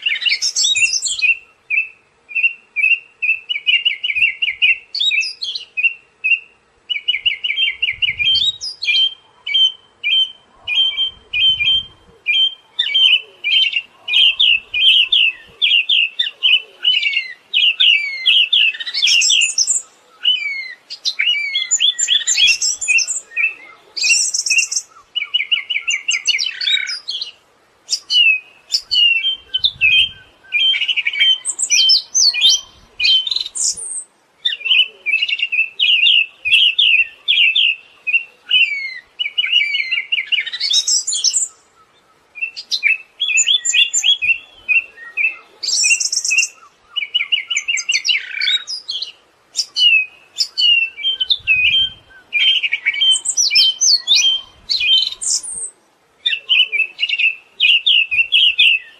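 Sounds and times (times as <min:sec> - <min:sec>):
thrush singing trills and whistles: 0:00.0 - 0:58.9.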